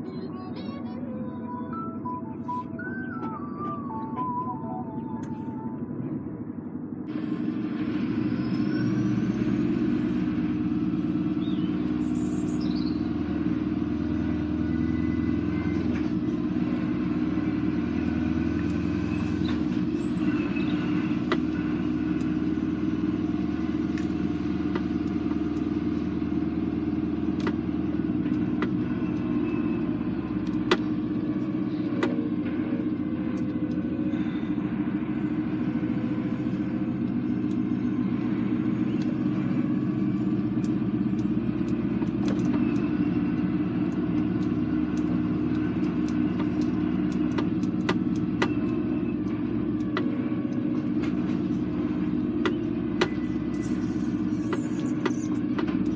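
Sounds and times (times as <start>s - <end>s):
lorry diesel engine running: 0.0s - 55.9s.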